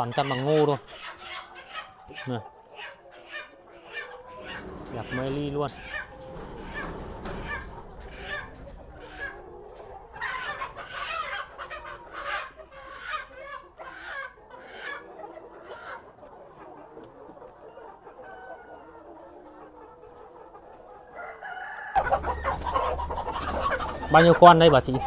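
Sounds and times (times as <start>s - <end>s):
chickens clucking: 0.0s - 25.0s
chickens squawking: 0.0s - 25.0s.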